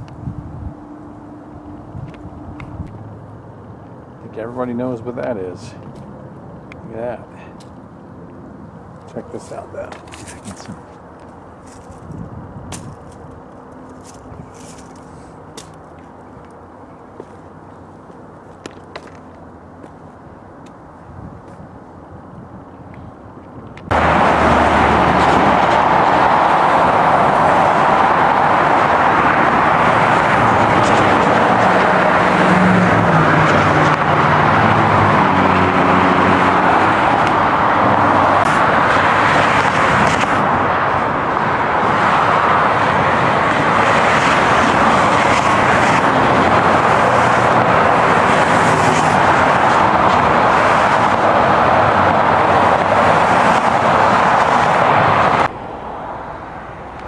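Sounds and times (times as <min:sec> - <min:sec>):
highway traffic passing: 0:00.0 - 0:57.0.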